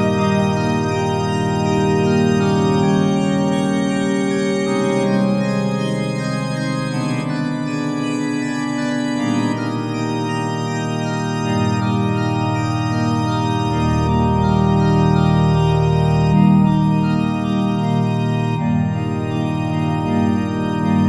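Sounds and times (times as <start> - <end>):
music of wavering held chords: 0.0 - 21.0.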